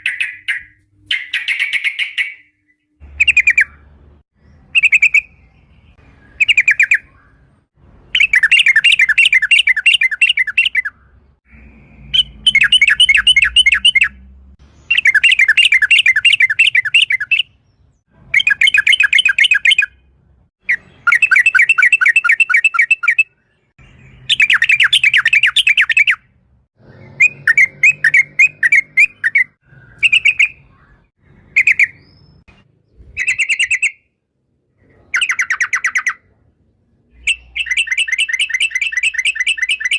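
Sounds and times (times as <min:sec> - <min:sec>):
bird chattering song: 0:00.0 - 0:34.1, 0:34.8 - 0:36.4, 0:37.0 - 0:39.9.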